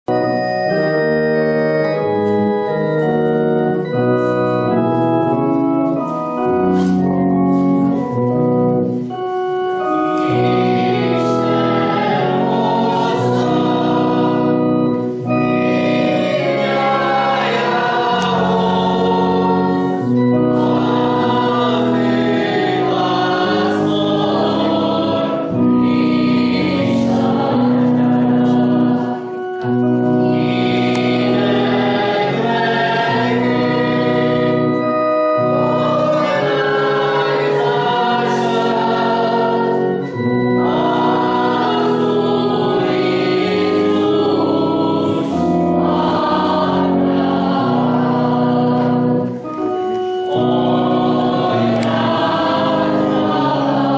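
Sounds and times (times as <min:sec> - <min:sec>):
church organ playing hymn: 0:00.0 - 0:53.9
voices singing: 0:09.9 - 0:53.9.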